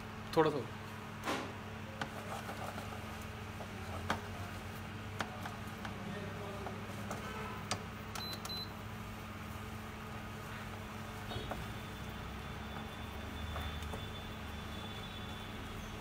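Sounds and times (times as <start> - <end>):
spatula stirring sugar in a pan: 1.8 - 8.0, 9.1 - 16.0.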